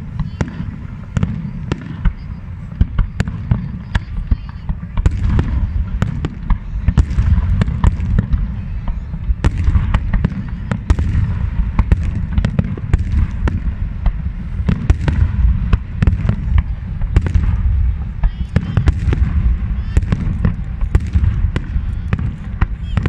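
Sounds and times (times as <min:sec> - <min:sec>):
deep rumble of shell bursts: 0:00.0 - 0:23.0
fireworks bangs and crackles: 0:00.0 - 0:23.0.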